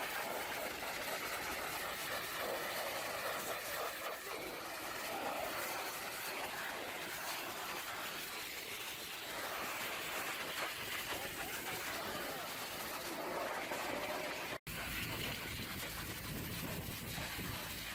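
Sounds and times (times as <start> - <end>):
pressure washer spraying water: 0.0 - 17.9.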